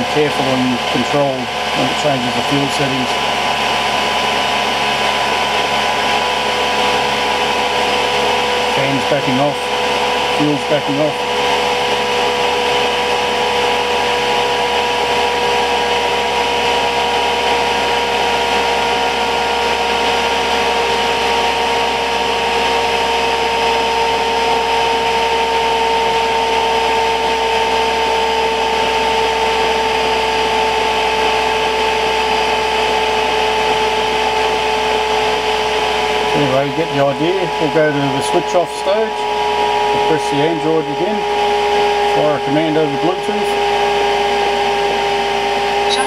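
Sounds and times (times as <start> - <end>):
heater blower fan whine: 0.0 - 46.0.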